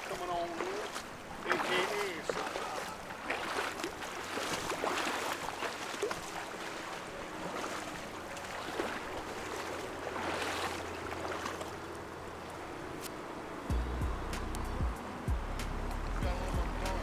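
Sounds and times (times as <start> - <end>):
fast-flowing river water: 0.0 - 13.7, 15.9 - 17.0
water splashes: 0.0 - 17.0.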